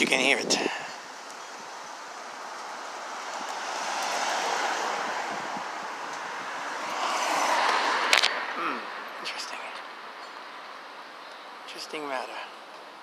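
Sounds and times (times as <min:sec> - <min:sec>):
gusty wind through trees: 0:00.0 - 0:13.0.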